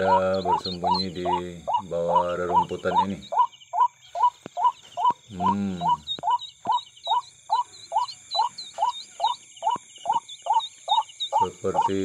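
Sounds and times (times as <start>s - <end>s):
chicks peeping: 0.0s - 12.0s
deeper bird call: 0.0s - 12.0s
insects trilling: 0.0s - 12.0s.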